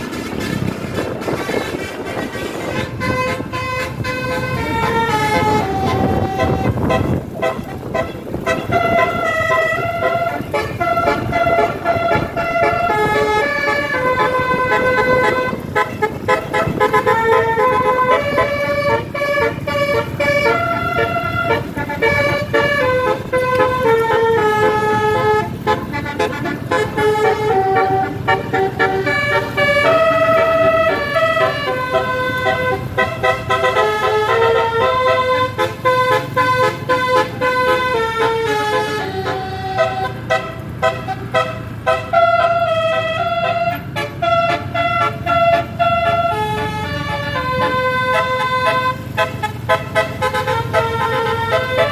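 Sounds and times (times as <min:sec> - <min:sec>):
bus horn playing melody: 0:00.0 - 0:51.9
vehicle running noise: 0:00.0 - 0:51.9.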